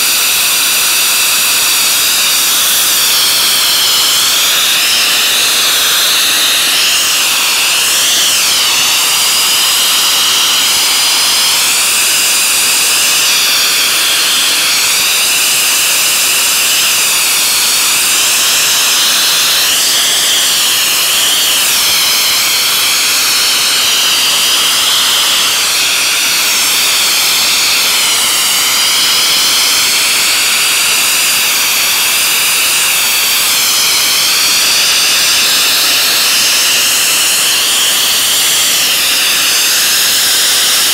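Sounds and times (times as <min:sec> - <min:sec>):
abrasive blaster hissing: 0:00.0 - 0:40.9.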